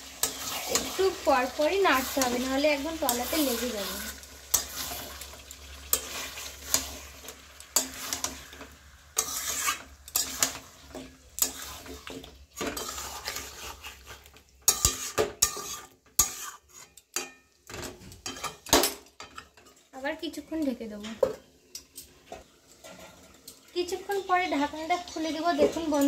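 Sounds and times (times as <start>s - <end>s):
spatula scraping a pan: 0.0s - 19.9s, 22.1s - 23.5s.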